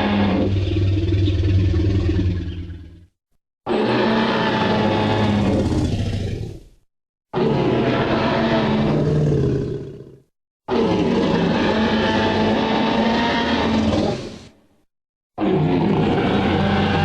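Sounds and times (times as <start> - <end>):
dinosaur roars: 0.0 - 3.1, 3.7 - 6.7, 7.3 - 14.6, 15.4 - 17.0.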